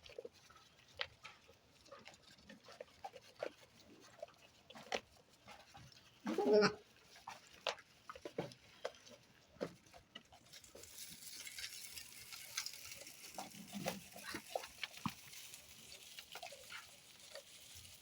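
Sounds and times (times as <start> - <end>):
goats crunching feed: 0.0 - 18.0.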